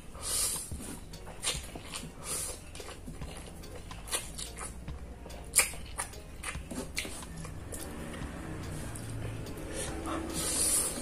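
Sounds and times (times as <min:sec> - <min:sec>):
person slurping and chewing noodles: 0:00.0 - 0:07.7, 0:08.5 - 0:11.0.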